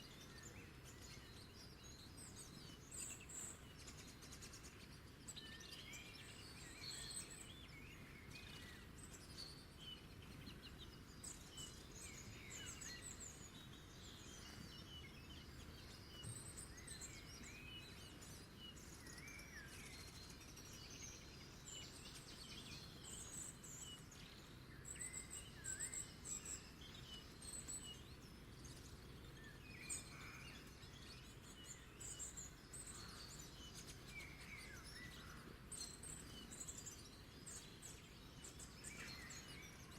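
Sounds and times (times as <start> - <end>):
low background hiss: 0.0 - 39.9
wild birds chirping and whistling: 0.0 - 39.9.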